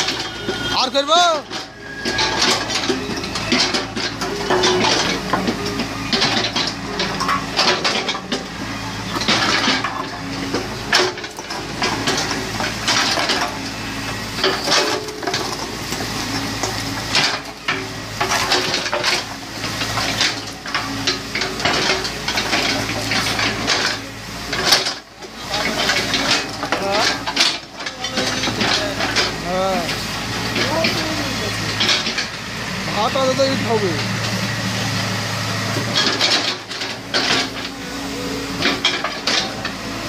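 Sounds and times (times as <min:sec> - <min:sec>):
excavator engine running: 0:00.0 - 0:40.0
bucket clanking and scraping: 0:01.4 - 0:32.4, 0:35.6 - 0:37.9, 0:38.5 - 0:40.0.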